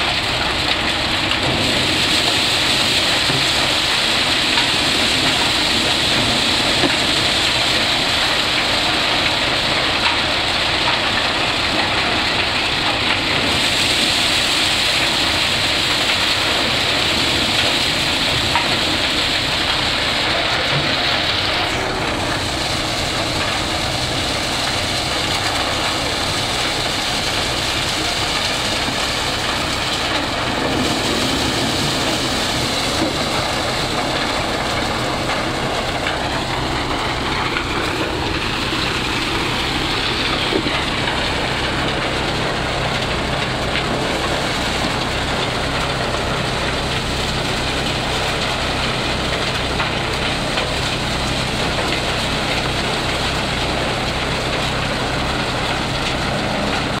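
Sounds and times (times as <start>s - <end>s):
maize thresher threshing: 0.0s - 57.0s.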